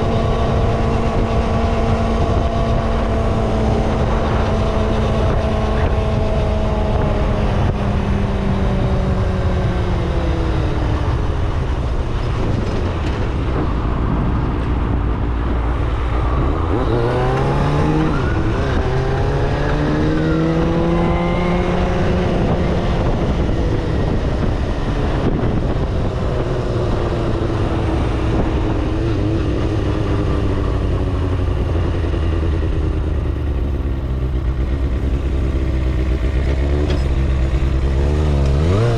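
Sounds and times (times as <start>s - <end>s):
heavy wind: 0.0s - 38.9s
motorcycle engine accelerating: 0.0s - 38.9s
road rumble: 0.0s - 38.9s.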